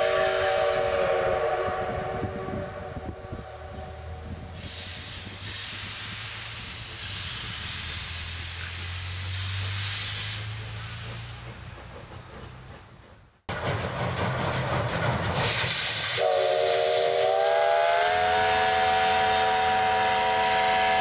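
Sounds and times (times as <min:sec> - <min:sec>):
steam locomotives hissing steam: 0:00.0 - 0:21.0.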